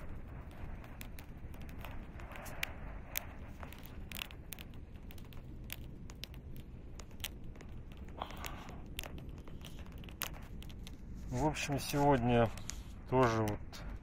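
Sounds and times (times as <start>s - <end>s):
campfire crackling: 0.0s - 14.0s
low background rumble: 0.0s - 14.0s.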